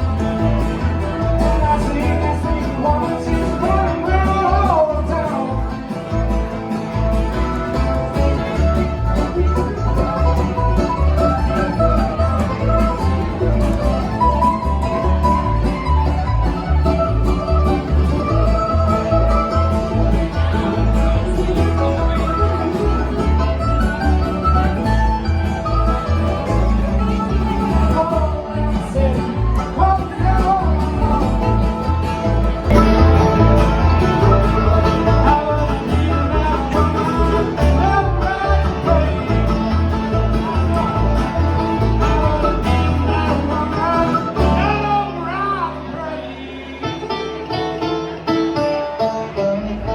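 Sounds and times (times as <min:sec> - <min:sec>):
banjo: 0:00.0 - 0:49.9
bass line: 0:00.0 - 0:49.9
fiddle: 0:00.0 - 0:49.9
guitar: 0:00.0 - 0:49.9.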